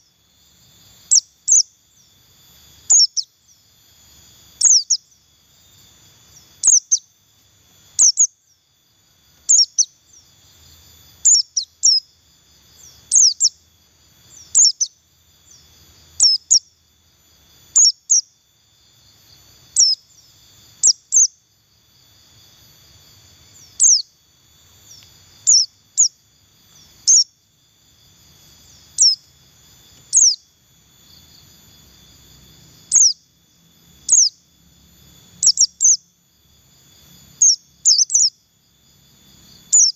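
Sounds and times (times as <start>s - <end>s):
bird chirping: 0.0s - 3.8s, 4.5s - 7.2s, 7.9s - 16.9s, 17.6s - 21.5s, 22.2s - 27.4s, 28.4s - 33.3s, 33.9s - 34.5s, 35.3s - 36.2s, 37.3s - 38.4s, 39.5s - 39.9s
faint high hum: 0.0s - 39.9s.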